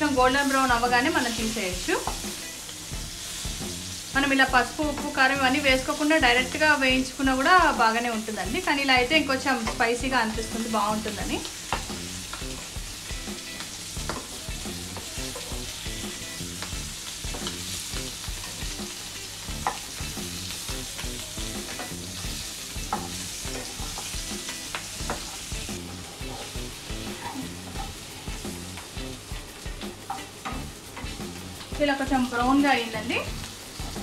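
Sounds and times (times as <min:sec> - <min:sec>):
potatoes sizzling in oil: 0:00.0 - 0:34.0.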